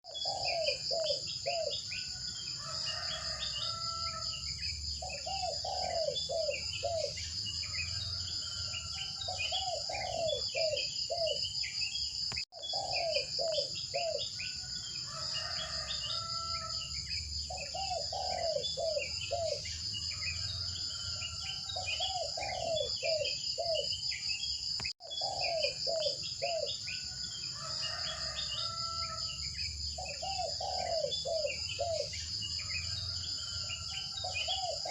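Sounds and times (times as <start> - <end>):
birds chirping: 0.1 - 34.9
high insect drone: 0.1 - 34.9.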